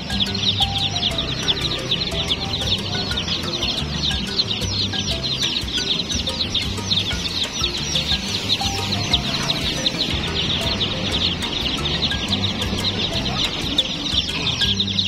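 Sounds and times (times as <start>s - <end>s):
baby chicks peeping: 0.0s - 15.0s.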